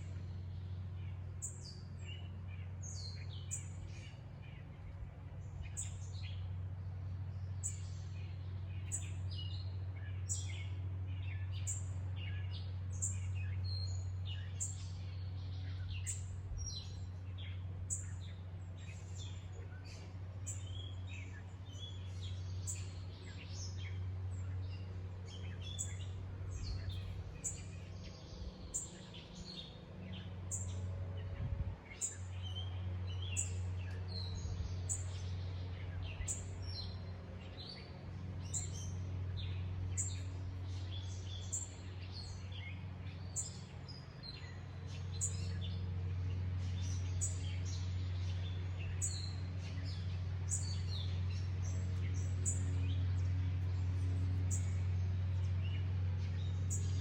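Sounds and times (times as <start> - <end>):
steady low rumble: 0.0 - 57.0
wild birds chirping: 0.0 - 57.0.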